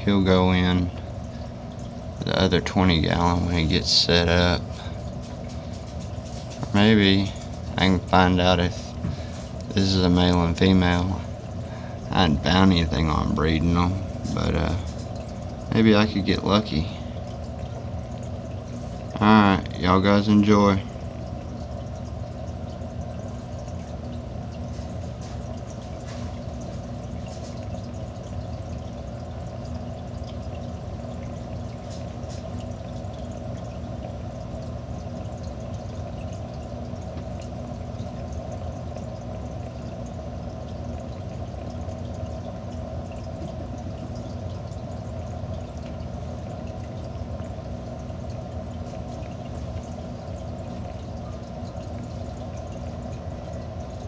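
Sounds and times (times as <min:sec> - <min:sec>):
aquarium filter hum: 0:00.0 - 0:54.0
water flowing and trickling: 0:00.0 - 0:54.0.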